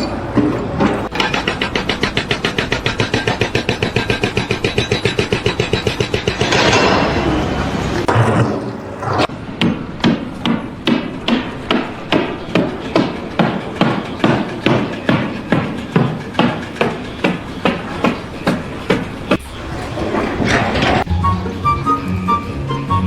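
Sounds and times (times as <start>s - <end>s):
hammer striking: 0.0s - 7.2s, 8.0s - 19.5s.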